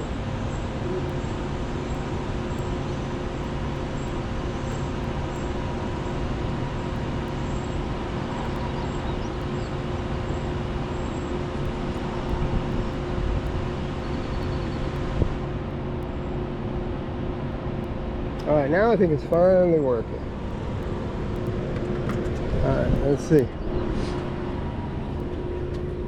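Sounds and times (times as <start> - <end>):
electrical and mechanical hum: 0.0 - 26.0
road traffic noise: 0.0 - 26.0.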